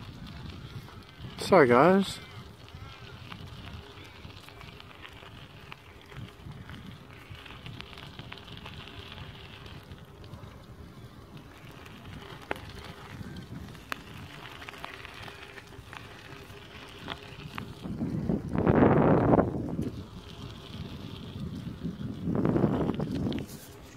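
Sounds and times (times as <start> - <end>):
bicycle clicks: 0.0 - 23.9
bicycle tyres crackling: 0.0 - 23.9
wind buffeting microphone: 0.0 - 23.9.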